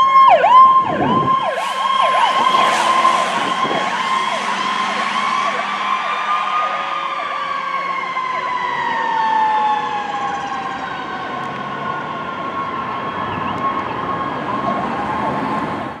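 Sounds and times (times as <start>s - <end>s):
fire engine sirens: 0.0s - 16.0s.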